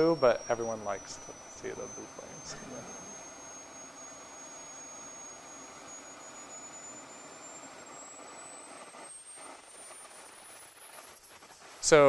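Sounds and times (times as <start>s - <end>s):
turbojet engine whine: 0.0s - 12.0s.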